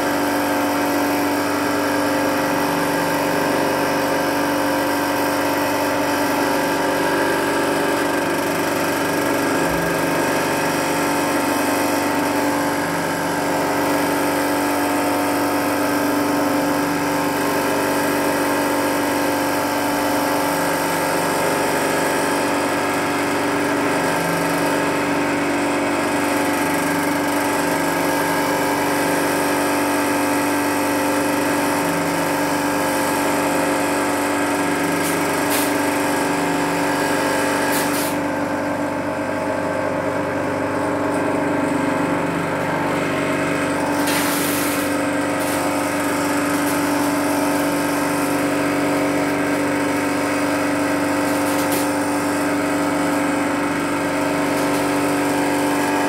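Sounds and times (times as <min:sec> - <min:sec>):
winding machine motor humming: 0:00.0 - 0:56.0.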